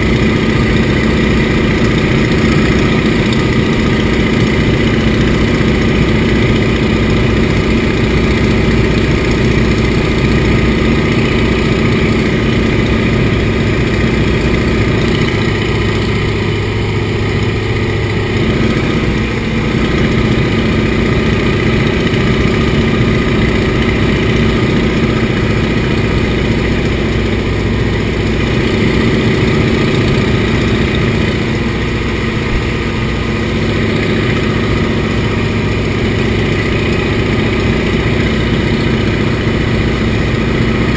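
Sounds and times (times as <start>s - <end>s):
aircraft engine droning in cockpit: 0.0s - 40.9s.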